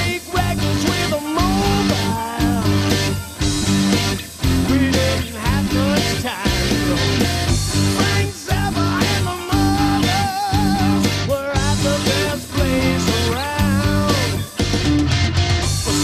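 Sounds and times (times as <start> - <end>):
person singing: 0.0 - 3.2, 4.6 - 14.7
rock music with electric guitar: 0.0 - 16.0.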